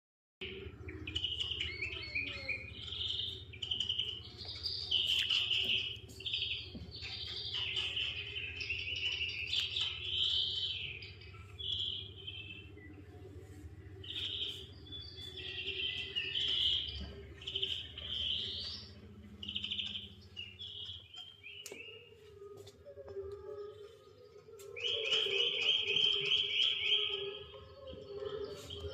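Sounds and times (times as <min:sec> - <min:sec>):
birds chirping and trilling: 0:00.4 - 0:28.9
steady low hum: 0:00.4 - 0:28.9.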